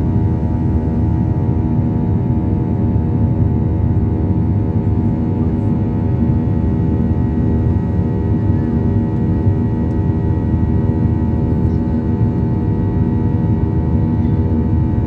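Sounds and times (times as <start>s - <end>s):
jet engines rumbling in cabin: 0.0s - 15.0s.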